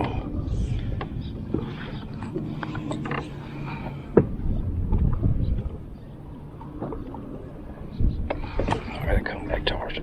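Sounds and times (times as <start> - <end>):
low rumbling on a boat: 0.0 - 10.0.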